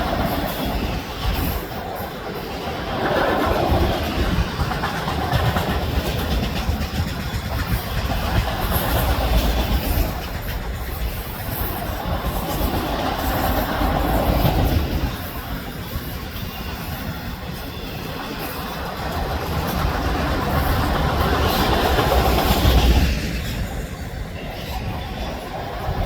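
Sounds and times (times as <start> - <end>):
freight train rolling past: 0.0 - 26.0
wheels clickety-clack on rail: 0.0 - 26.0.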